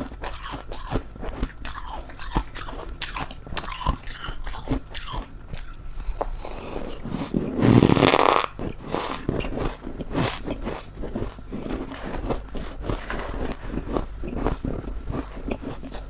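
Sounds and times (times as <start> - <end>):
crunching and chewing frost: 0.0 - 16.0.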